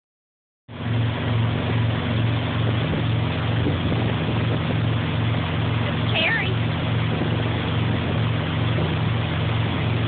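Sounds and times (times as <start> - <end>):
boat engine humming: 0.7 - 10.0
water rushing: 0.7 - 10.0.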